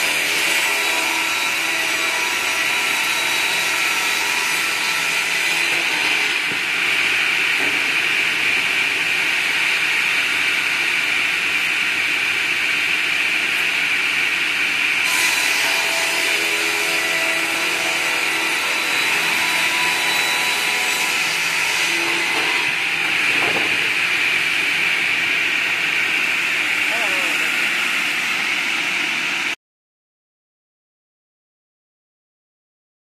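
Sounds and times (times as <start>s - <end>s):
circular saw cutting log: 0.0s - 28.7s.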